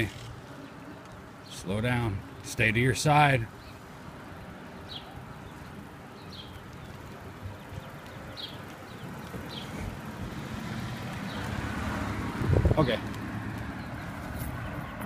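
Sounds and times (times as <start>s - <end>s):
low road rumble: 0.0s - 15.0s.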